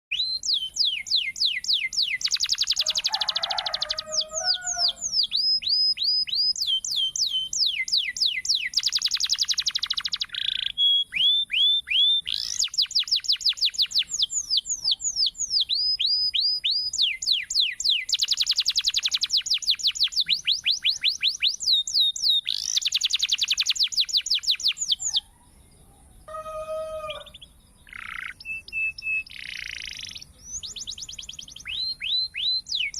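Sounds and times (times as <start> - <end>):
canary singing trills: 0.1 - 32.9.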